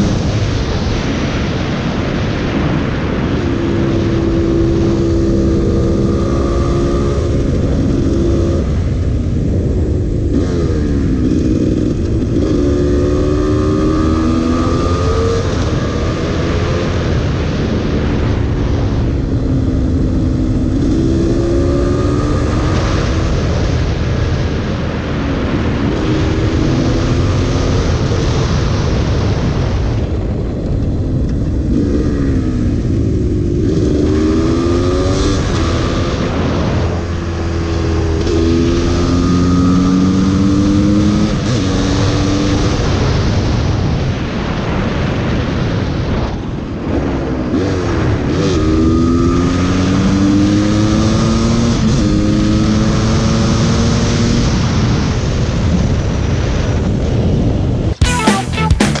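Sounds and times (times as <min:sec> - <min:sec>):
wind rush on microphone: 0:00.0 - 0:58.0
motorcycle engine accelerating: 0:00.0 - 0:59.0.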